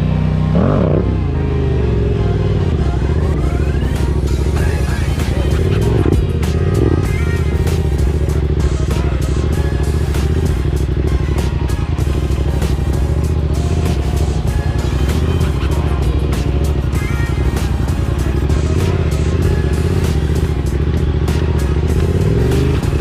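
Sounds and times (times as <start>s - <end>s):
background music: 0.0s - 23.0s
motorcycle engine revving: 0.0s - 23.0s.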